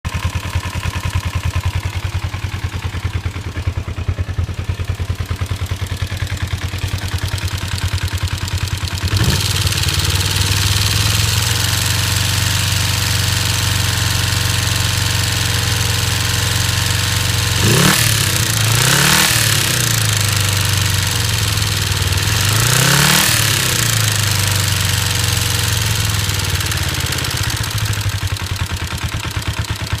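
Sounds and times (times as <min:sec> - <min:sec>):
motorcycle engine idling: 0:00.1 - 0:30.0.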